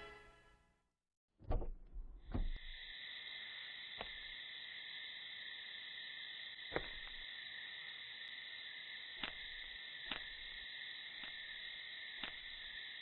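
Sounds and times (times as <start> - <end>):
night insects chirping: 2.4 - 13.0.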